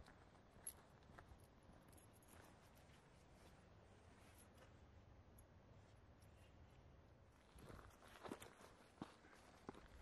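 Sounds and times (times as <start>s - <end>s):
faint ticks and rustles: 0.0s - 10.0s.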